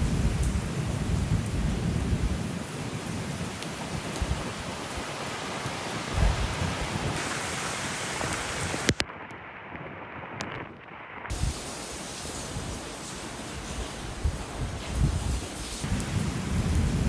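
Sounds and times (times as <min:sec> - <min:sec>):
storm wind and rain: 0:00.0 - 0:17.0
wind gusts buffeting microphone: 0:00.0 - 0:17.0.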